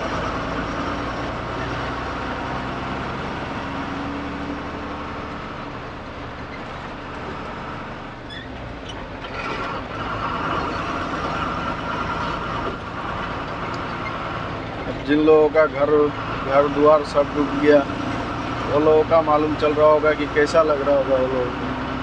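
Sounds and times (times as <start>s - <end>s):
road noise: 0.0s - 22.0s
truck engine running: 0.0s - 22.0s.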